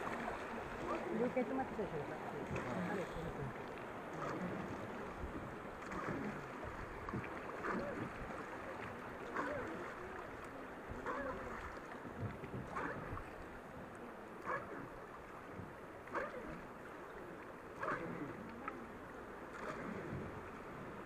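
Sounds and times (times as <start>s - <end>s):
fast river water rushing: 0.0s - 21.0s
oars rowing a wooden boat: 0.0s - 21.0s.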